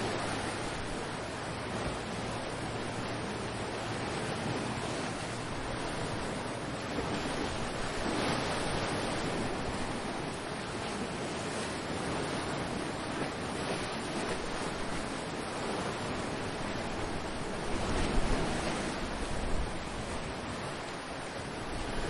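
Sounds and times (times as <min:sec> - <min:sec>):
ocean surf washing in: 0:00.0 - 0:22.0
wind buffeting microphone: 0:00.0 - 0:22.0.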